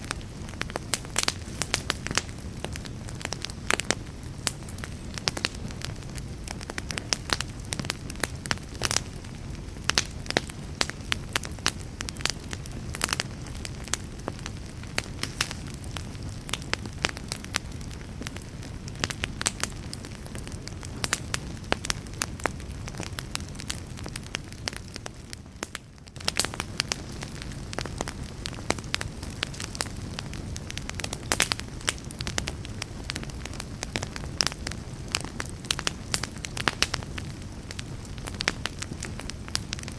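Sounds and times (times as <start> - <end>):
rush of flames: 0.0 - 39.9
wood fire crackling and popping: 0.0 - 39.9.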